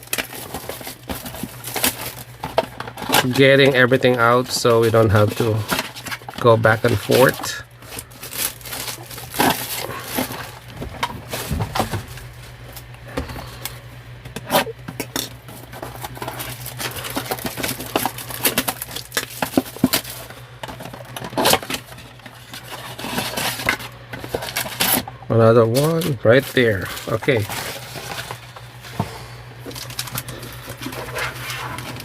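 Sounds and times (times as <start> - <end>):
cardboard and foil packs crinkling: 0.0 - 32.0
steady low hum: 0.0 - 32.0.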